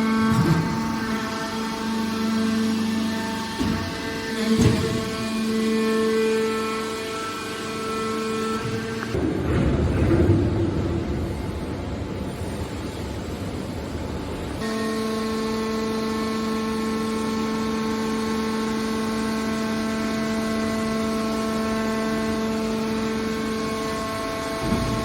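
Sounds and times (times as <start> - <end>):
machine hum: 0.0 - 25.0.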